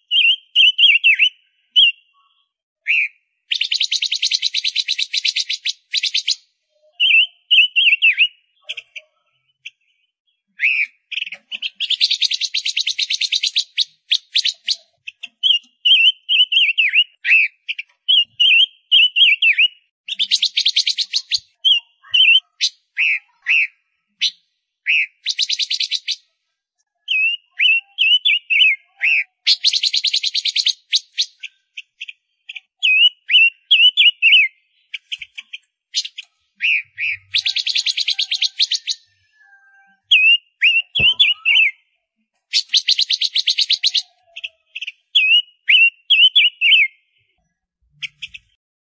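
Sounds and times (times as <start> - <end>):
finch chirping: 0.0 - 26.3, 27.0 - 41.9, 42.5 - 47.3, 47.9 - 48.6.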